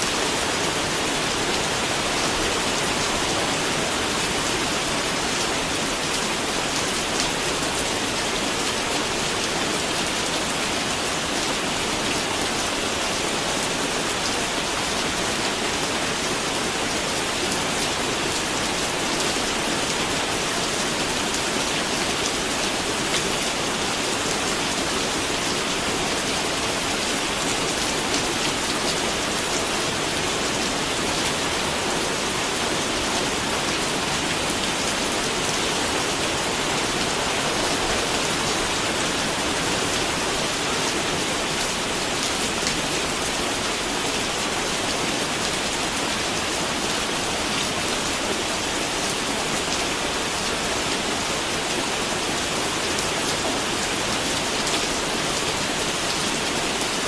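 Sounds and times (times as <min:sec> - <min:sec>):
rain pattering on a surface: 0:00.1 - 0:57.0.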